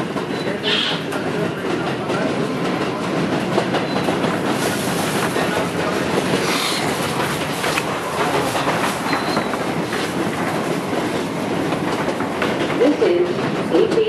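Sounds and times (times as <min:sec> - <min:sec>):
subway train running on track: 0:00.0 - 0:14.0.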